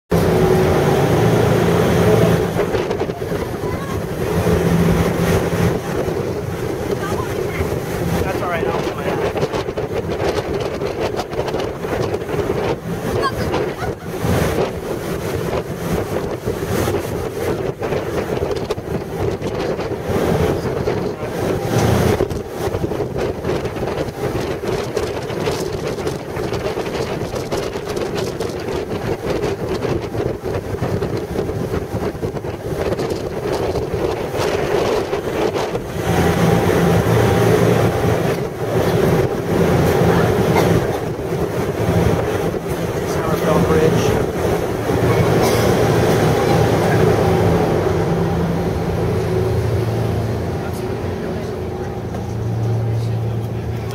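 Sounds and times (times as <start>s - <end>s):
ferry engines humming: 0.1s - 53.9s
rush of boat wake: 0.1s - 53.9s
wind buffeting microphone: 0.1s - 53.9s.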